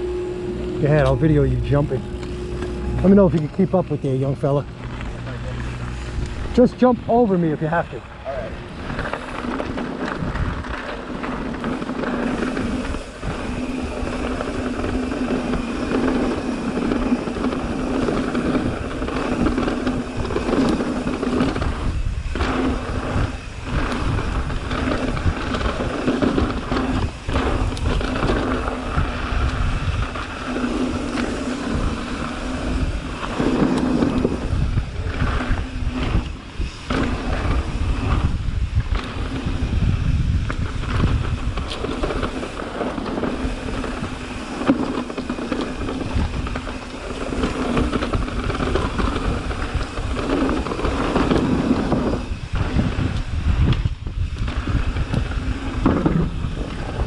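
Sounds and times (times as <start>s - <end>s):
bike rattling: 0.0s - 57.0s
tyres rumbling on dirt: 0.0s - 57.0s
wind buffeting microphone: 0.0s - 57.0s.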